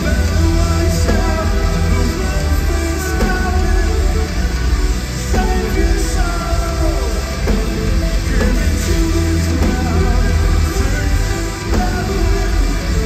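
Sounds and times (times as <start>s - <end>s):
metal band playing live: 0.0s - 13.0s.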